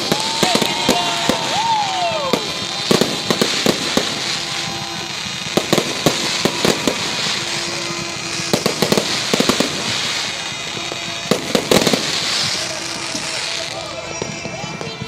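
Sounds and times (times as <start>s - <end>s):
fireworks bangs: 0.0s - 15.0s
fireworks crackle: 0.0s - 15.0s.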